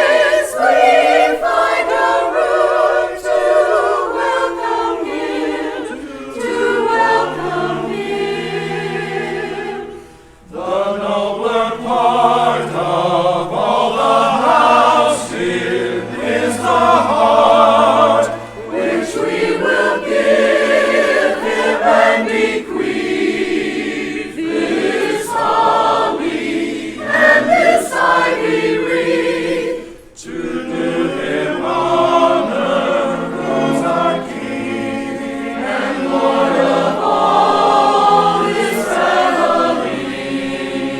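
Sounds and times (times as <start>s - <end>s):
choir singing in harmony: 0.0s - 40.9s.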